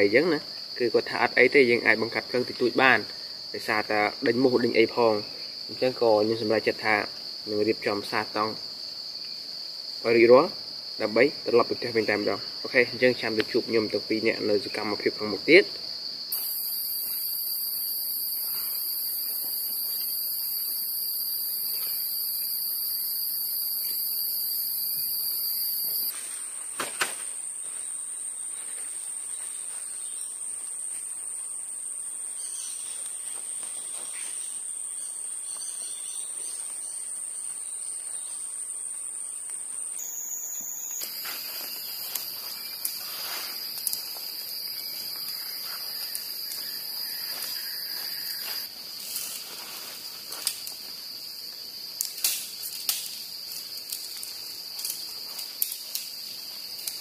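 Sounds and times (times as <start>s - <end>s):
insect chorus shrilling: 0.0s - 57.0s.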